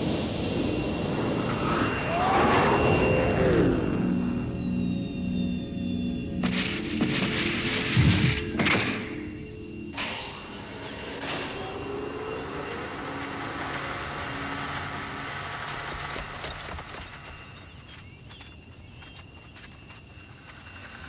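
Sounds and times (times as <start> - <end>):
mechanical hum with hiss: 0.0 - 21.0
whine rising in pitch: 0.0 - 21.0.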